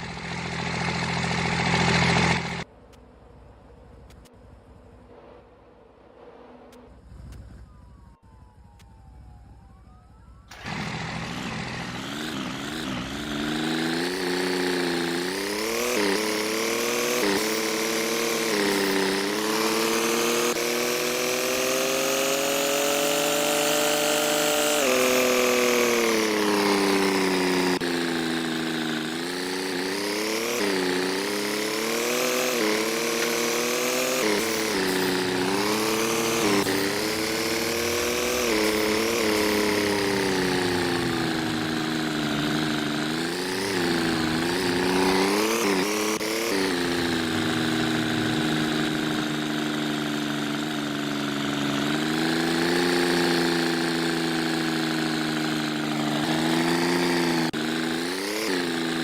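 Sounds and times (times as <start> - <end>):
engine revving: 0.0 - 2.7, 10.5 - 59.0.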